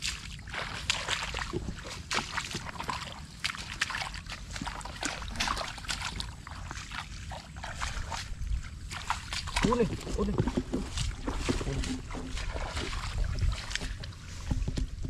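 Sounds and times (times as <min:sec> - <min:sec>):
footsteps in wet grass and mud: 0:00.0 - 0:15.0.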